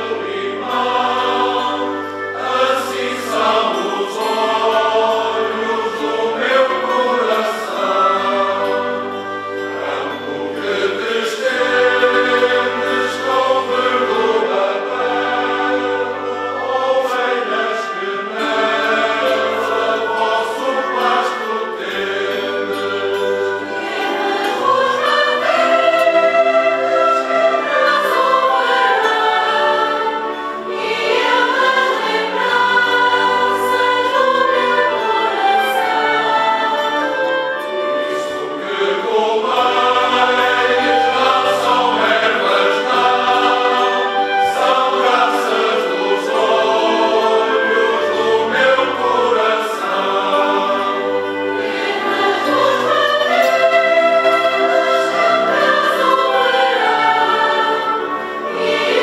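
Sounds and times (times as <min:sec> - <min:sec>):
choir singing: 0:00.0 - 0:59.0
wind band playing: 0:00.0 - 0:59.0.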